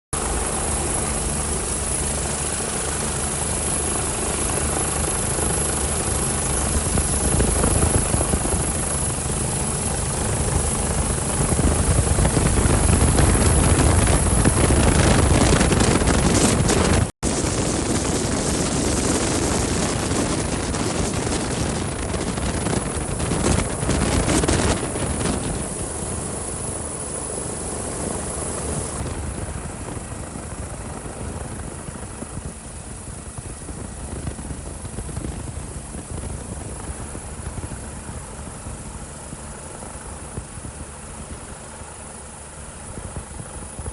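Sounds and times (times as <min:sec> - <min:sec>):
helicopter engine and rotor: 0:00.1 - 0:43.9.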